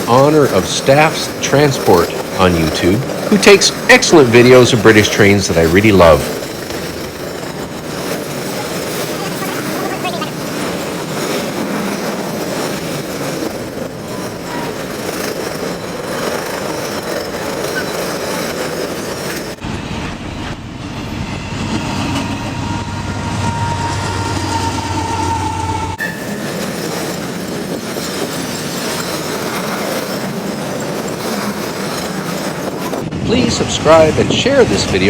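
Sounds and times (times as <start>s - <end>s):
wheels clattering over rail joints: 0.0s - 19.6s, 26.0s - 35.0s
freight train rumble: 0.0s - 35.0s.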